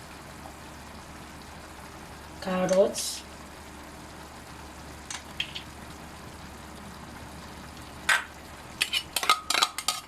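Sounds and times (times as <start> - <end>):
stew simmering in a pot: 0.0 - 10.0.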